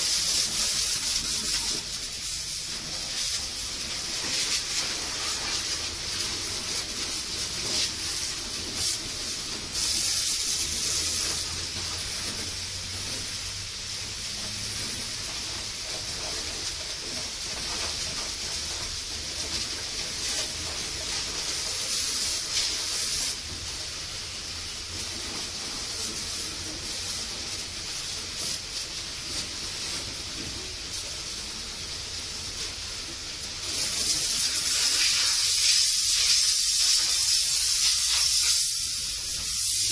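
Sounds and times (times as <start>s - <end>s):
high-pressure water jet spraying: 0.0s - 39.9s.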